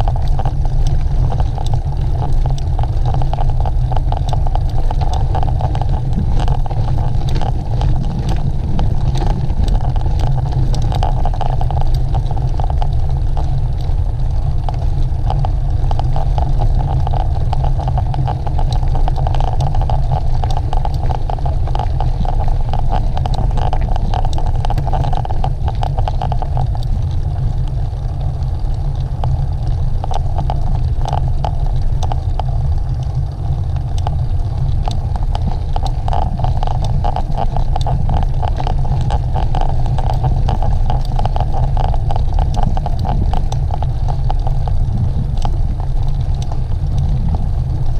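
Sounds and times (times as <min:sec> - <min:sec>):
mountain bike rattling and clicking: 0:00.0 - 0:47.9
wind rumble on microphone: 0:00.0 - 0:47.9.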